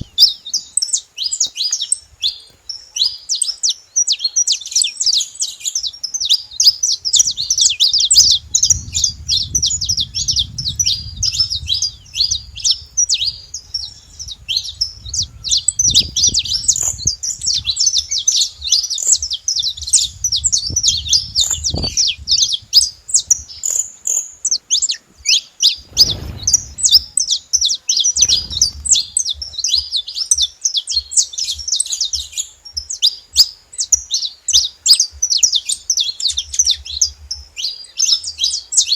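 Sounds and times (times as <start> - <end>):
finch singing chirps and trills: 0.0 - 38.9.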